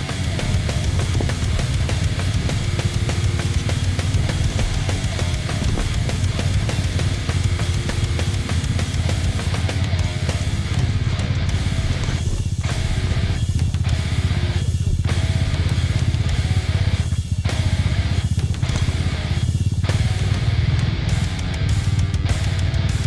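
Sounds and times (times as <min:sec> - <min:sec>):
drum kit beat: 0:00.0 - 0:23.0
heavy rock music: 0:00.0 - 0:23.0.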